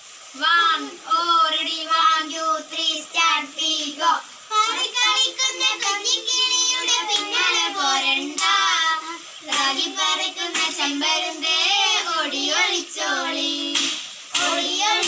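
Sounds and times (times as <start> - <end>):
young girls singing: 2.2 - 15.0.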